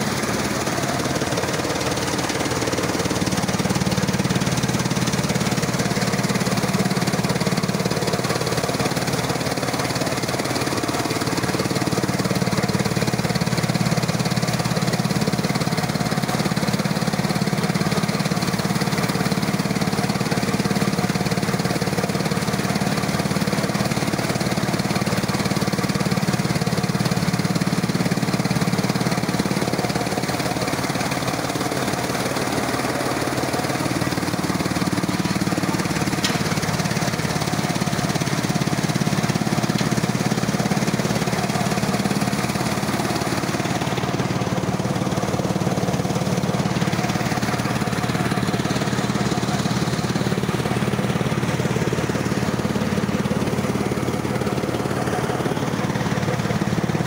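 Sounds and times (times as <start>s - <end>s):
threshing machine droning: 0.0s - 57.0s.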